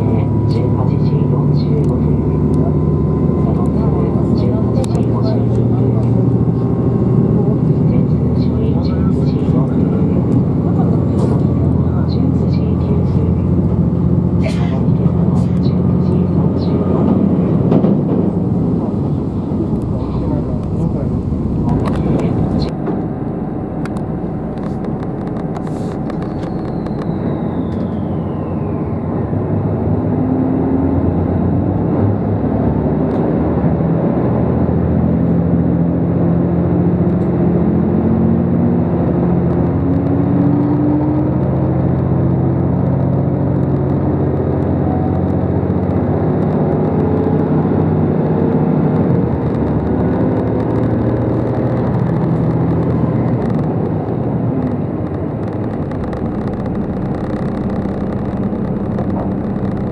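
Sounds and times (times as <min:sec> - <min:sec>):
diesel train engines accelerating: 0:00.0 - 0:59.9.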